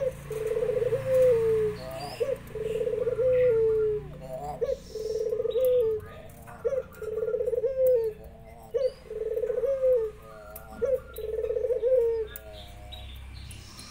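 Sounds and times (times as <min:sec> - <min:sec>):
dove cooing: 0:00.0 - 0:13.2.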